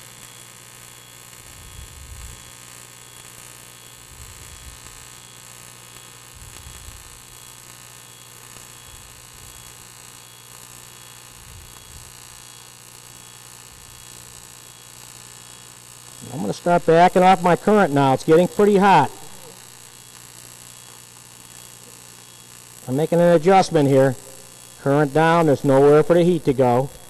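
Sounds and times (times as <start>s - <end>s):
welding arc buzzing and hissing: 0.0s - 27.0s.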